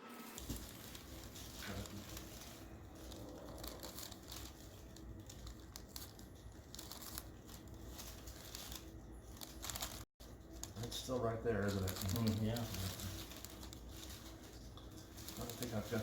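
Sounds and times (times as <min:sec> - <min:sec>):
rustling and crinkling: 0:00.4 - 0:16.0.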